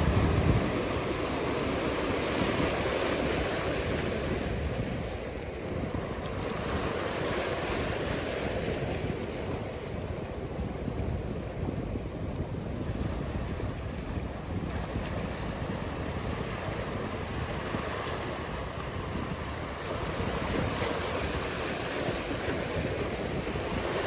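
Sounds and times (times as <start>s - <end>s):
ocean surf rumbling: 0.0s - 24.0s
wind buffeting microphone: 0.0s - 24.0s.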